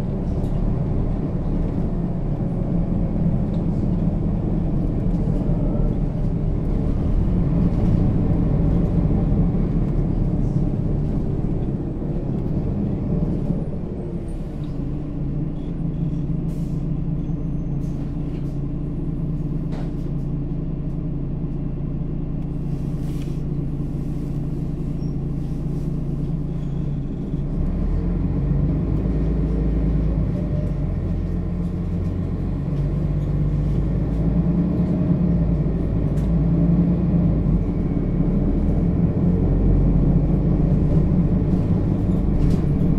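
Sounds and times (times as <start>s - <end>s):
bus engine running under load: 0.0s - 42.9s.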